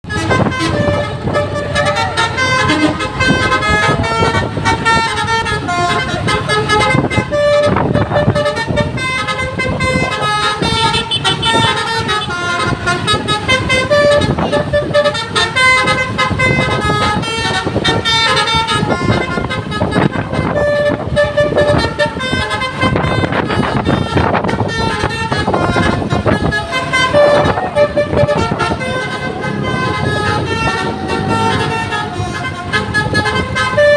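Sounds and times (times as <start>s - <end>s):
bus horn playing a tune: 0.0s - 33.9s
vehicle noise: 0.0s - 33.9s.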